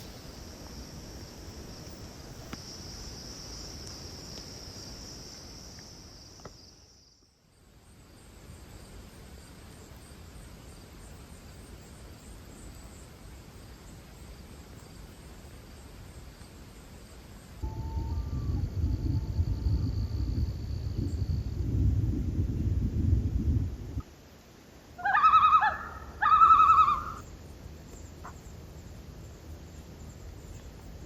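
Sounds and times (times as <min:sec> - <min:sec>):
insect chorus trilling: 0:00.0 - 0:21.8, 0:24.8 - 0:31.0
high pulsing insect song: 0:00.0 - 0:31.0.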